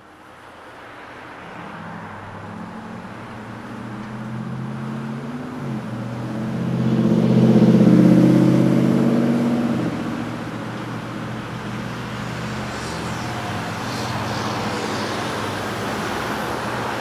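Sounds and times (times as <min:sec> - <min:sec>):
city street traffic: 0:00.0 - 0:17.0
vehicle engine running close by: 0:02.3 - 0:17.0.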